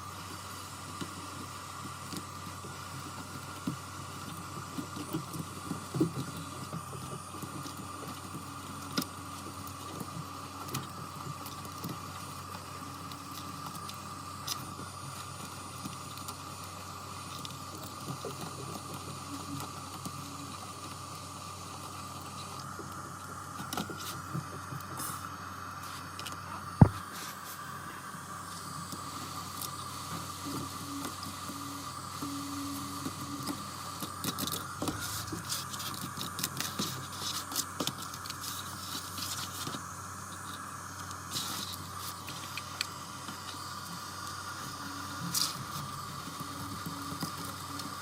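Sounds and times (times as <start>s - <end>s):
high-pitched equipment hum: 0.0s - 48.0s.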